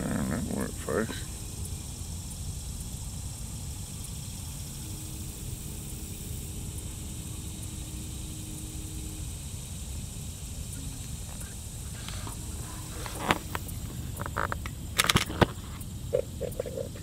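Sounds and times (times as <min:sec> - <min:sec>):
faint hum: 0:00.0 - 0:17.0
high hiss: 0:00.0 - 0:17.0.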